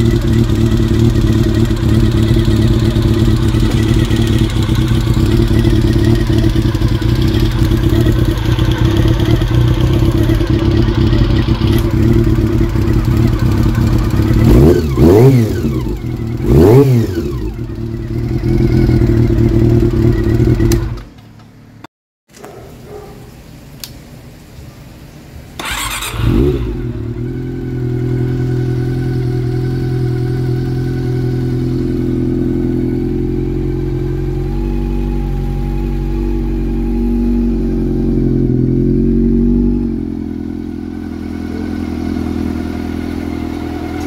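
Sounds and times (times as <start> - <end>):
motorcycle engine blipping: 0.0 - 21.6, 25.6 - 44.0
motorcycle engine idling: 0.0 - 21.8, 25.6 - 44.0.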